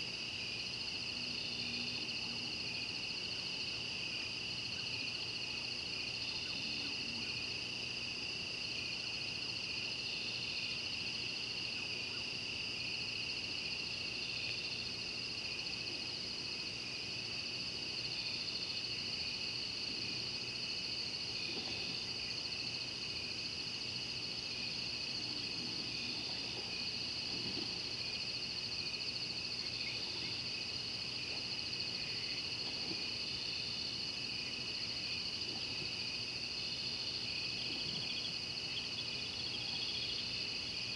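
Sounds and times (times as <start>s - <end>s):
crickets trilling: 0.0s - 40.9s
high insect call: 0.0s - 40.9s.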